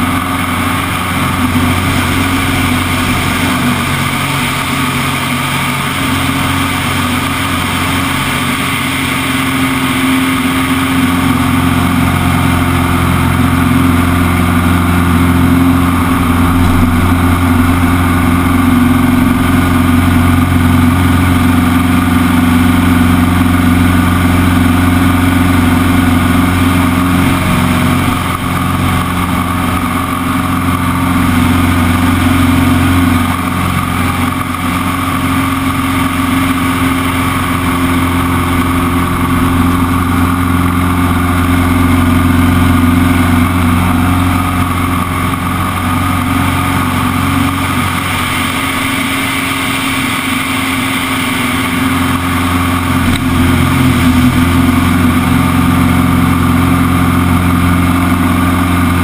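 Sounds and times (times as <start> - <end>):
plane engine and propeller droning: 0.0 - 59.0.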